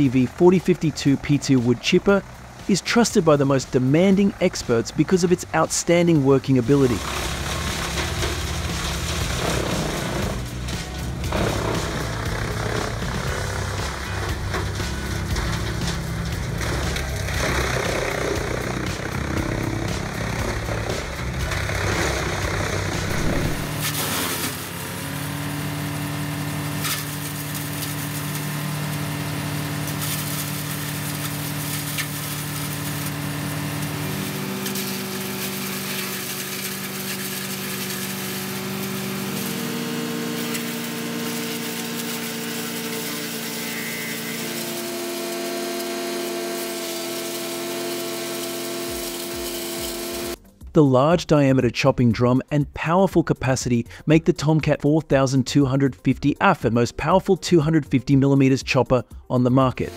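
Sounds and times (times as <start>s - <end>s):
wood chipper engine running: 0.0s - 50.4s.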